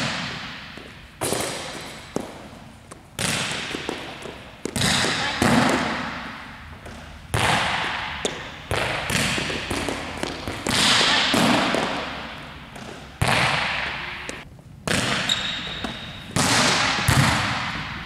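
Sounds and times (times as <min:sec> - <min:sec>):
volleyball thumps in echoing gym: 0:00.0 - 0:18.0.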